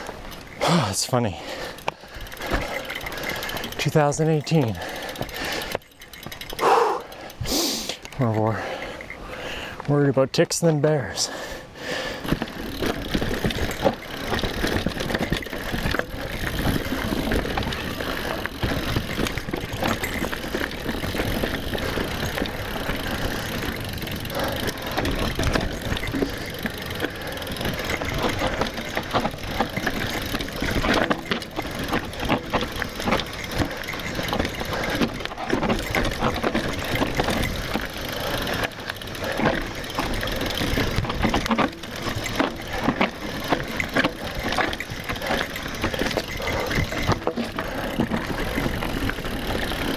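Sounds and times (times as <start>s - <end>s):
bike tyres rolling over dirt: 0.0s - 49.9s
bike frame rattling and knocking: 1.4s - 7.4s, 12.2s - 49.9s.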